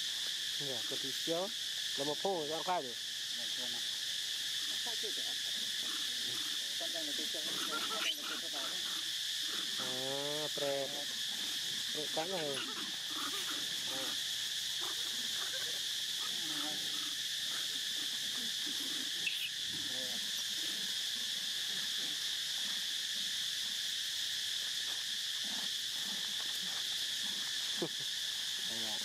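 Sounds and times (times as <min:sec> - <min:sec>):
insect chorus droning: 0:00.0 - 0:29.0.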